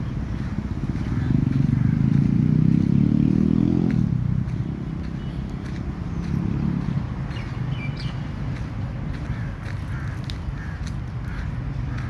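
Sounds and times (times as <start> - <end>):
vehicle engine passing by: 0.0 - 10.4.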